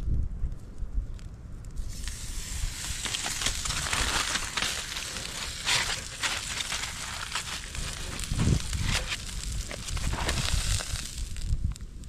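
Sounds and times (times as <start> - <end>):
rolls sizzling in a skillet: 1.8 - 11.6.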